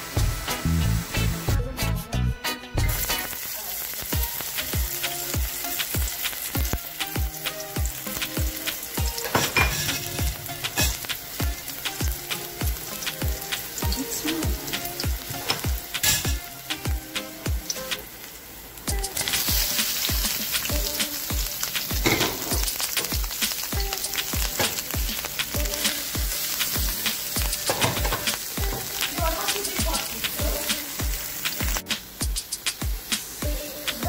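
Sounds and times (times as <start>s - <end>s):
background music with steady beat: 0.0s - 3.4s, 4.0s - 18.1s, 18.9s - 34.0s
onion sizzling in hot oil: 0.0s - 34.0s.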